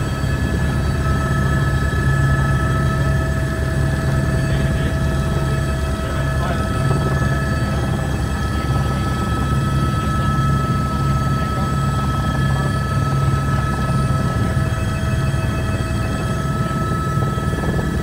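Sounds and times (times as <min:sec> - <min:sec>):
helicopter engine and rotor drone: 0:00.0 - 0:18.0.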